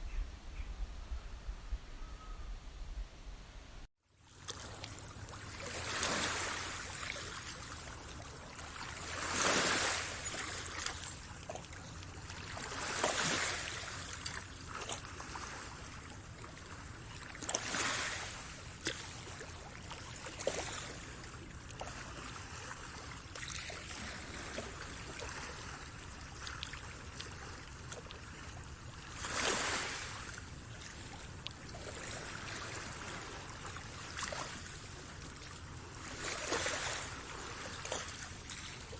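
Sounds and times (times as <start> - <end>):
low water rush: 4.2 - 38.9
small waves lapping: 4.2 - 38.9.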